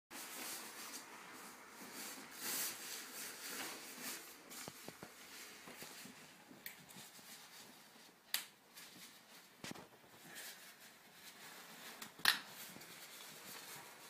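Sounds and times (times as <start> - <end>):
plastic bag rustling: 0.2 - 14.0.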